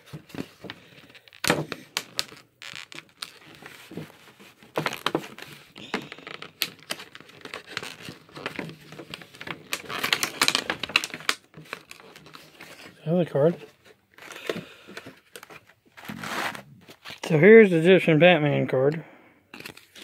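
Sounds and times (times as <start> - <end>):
plastic packaging crinkling: 0.0 - 17.3, 19.5 - 20.0.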